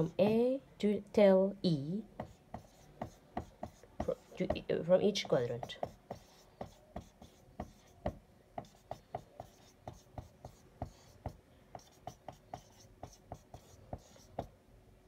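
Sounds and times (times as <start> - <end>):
marker writing on whiteboard: 2.2 - 14.6.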